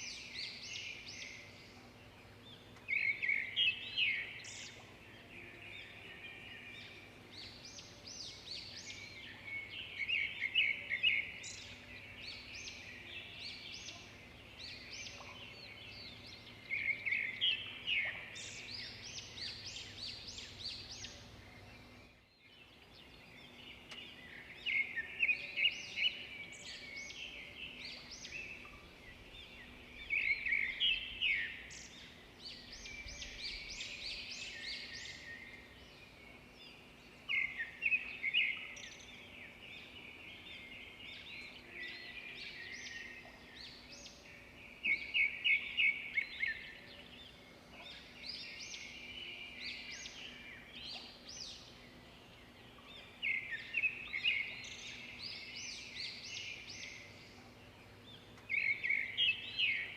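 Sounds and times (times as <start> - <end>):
faint outdoor background: 0.0 - 59.9
songbird chirping: 0.0 - 59.9.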